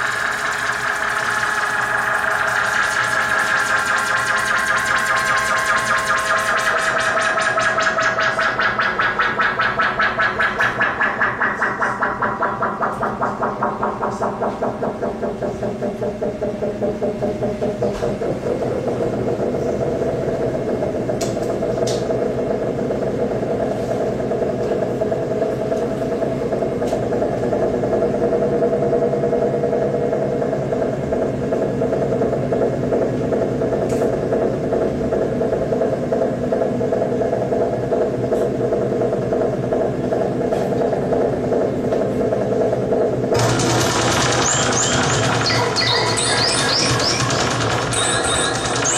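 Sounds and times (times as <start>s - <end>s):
bright pulsing electronic layer: 0.0s - 48.9s
pulsing electronic noise drone: 0.0s - 48.9s.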